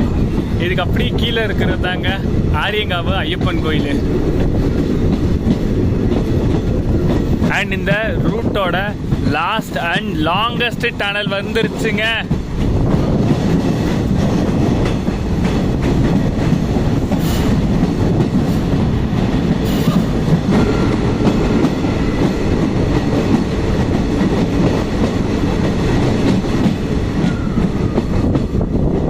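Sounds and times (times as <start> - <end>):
train wheels rumbling and clattering: 0.0 - 29.0.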